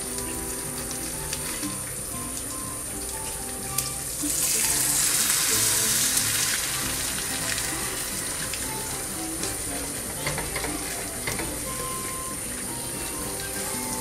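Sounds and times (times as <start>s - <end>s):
omelette sizzling in a pan: 0.0s - 14.0s.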